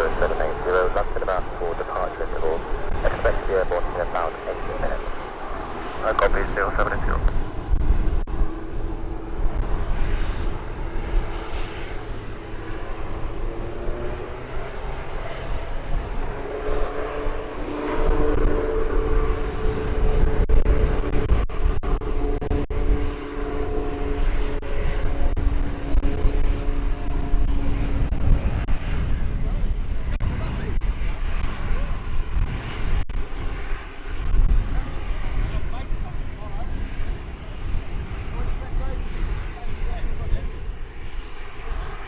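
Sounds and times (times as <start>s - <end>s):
turboprop engines droning: 0.0s - 42.0s
wind rumbling on microphone: 0.0s - 42.0s.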